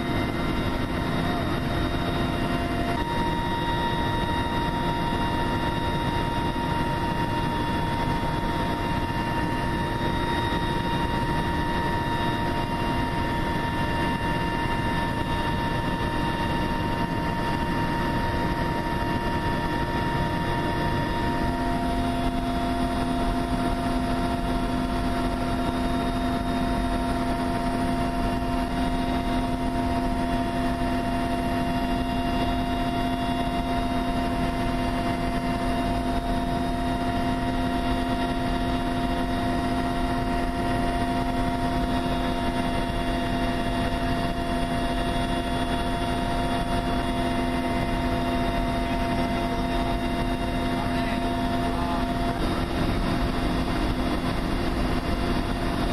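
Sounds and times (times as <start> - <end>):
aircraft engine hum in cabin: 0.0 - 55.9
constant rushing noise: 0.0 - 55.9.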